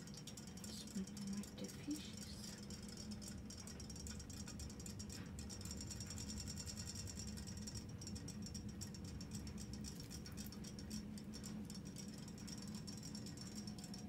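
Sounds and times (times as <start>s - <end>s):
toy fish motors rattling tick: 0.0s - 14.0s.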